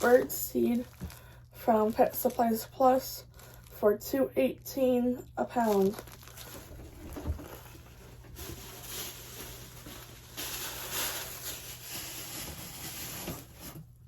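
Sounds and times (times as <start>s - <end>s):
bag of bird seed rustling: 0.0s - 3.8s, 5.6s - 13.8s.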